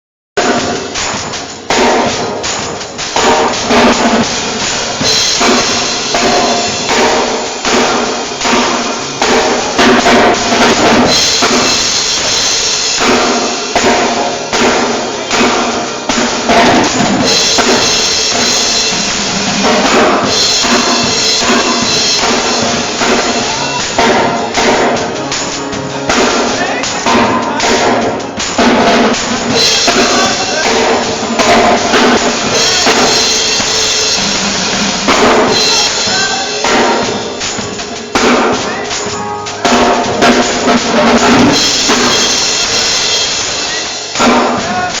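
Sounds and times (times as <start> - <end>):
drum kit playing: 0.4 - 45.0.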